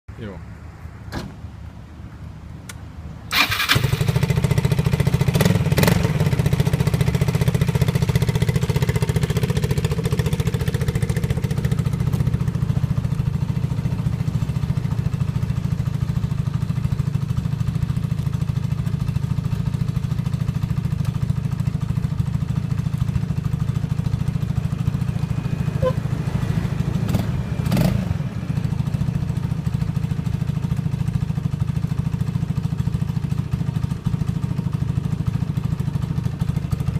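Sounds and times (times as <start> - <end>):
scooter engine starting and idling: 3.3 - 36.9.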